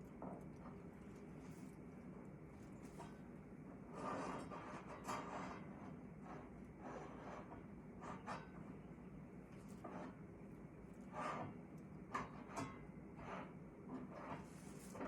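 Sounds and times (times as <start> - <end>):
scrapes and rustles: 0.6 - 3.3, 3.9 - 8.5, 9.5 - 10.3, 10.9 - 15.0.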